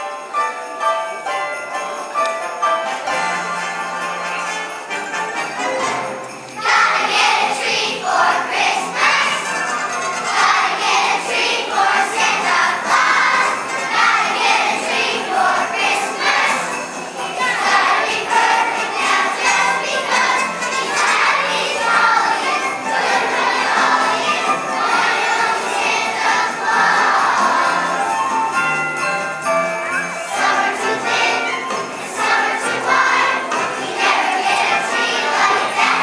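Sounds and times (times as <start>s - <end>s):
sleigh bells jingling: 0.0s - 36.0s
children's choir singing: 5.8s - 28.8s, 29.9s - 36.0s.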